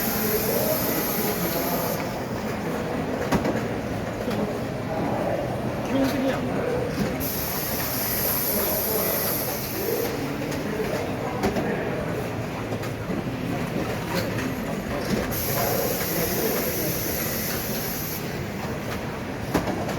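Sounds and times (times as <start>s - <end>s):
faint chatter: 0.0s - 19.5s.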